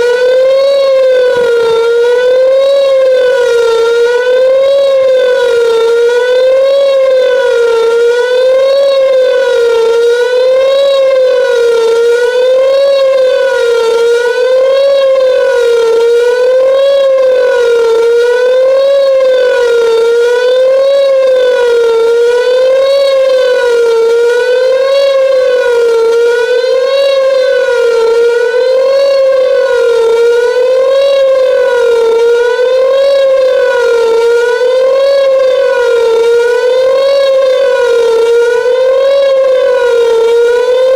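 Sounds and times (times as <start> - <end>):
wavering warning siren: 0.0 - 40.9.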